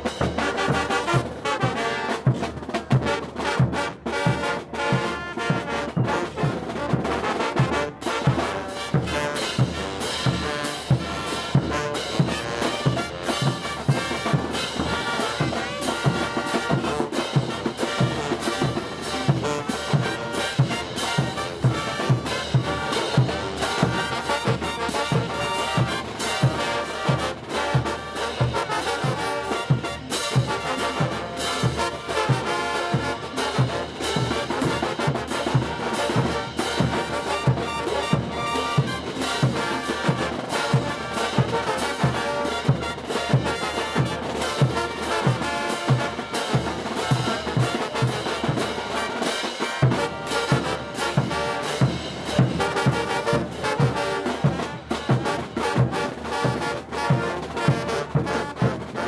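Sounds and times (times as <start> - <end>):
brass band playing: 0.0 - 59.0
trumpets and trombones: 0.0 - 59.0.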